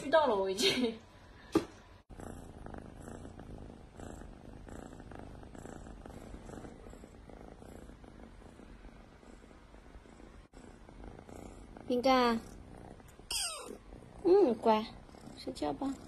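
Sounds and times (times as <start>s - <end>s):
kitten purring: 2.0s - 16.0s.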